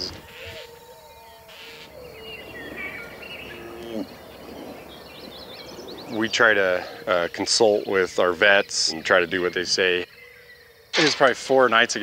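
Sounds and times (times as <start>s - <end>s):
birds chirping: 0.0s - 12.0s
outdoor background noise: 0.0s - 12.0s.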